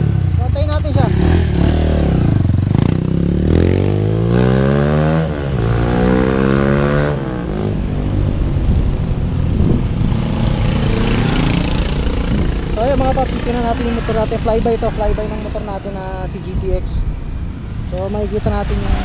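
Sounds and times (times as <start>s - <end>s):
motorcycle accelerating: 0.0s - 19.0s.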